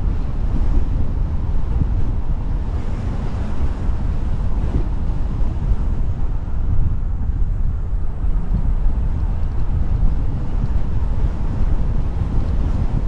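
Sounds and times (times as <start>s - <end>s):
road noise hiss: 0.0s - 13.0s
wind buffeting microphone: 0.0s - 13.0s.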